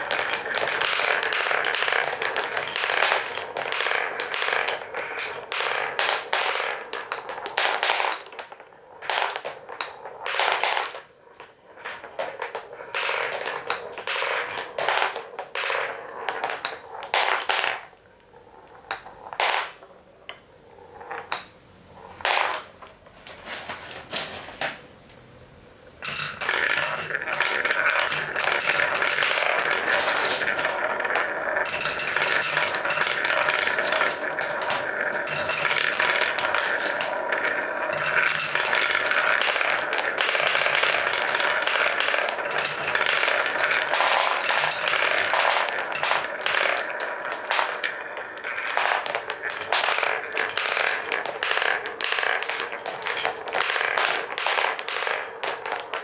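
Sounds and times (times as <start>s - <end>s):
balls clattering in wooden bowl: 0.0s - 24.8s, 25.9s - 56.0s
wooden balls knocking on blocks: 0.0s - 24.9s, 25.9s - 56.0s.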